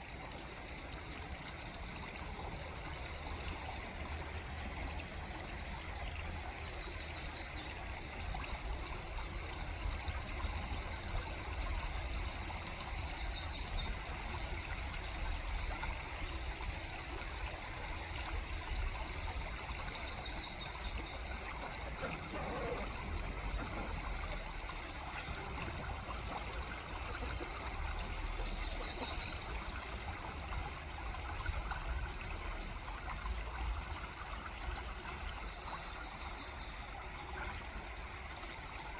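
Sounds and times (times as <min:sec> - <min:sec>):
water trickling and rushing: 0:00.0 - 0:38.9.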